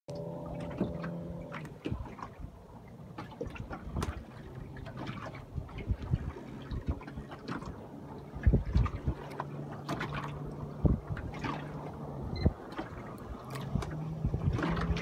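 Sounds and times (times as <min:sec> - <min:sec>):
small waves lapping and splashing: 0:00.1 - 0:15.0.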